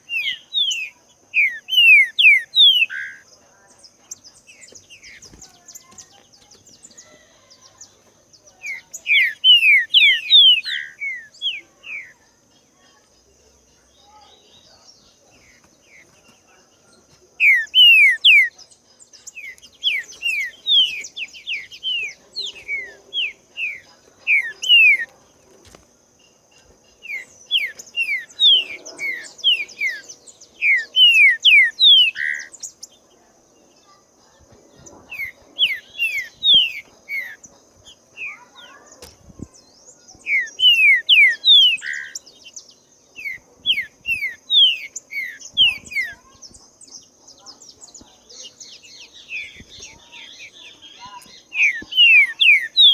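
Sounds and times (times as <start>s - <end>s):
bird singing whistled notes: 0.0s - 12.2s, 17.4s - 25.2s, 26.8s - 33.0s, 34.8s - 52.9s.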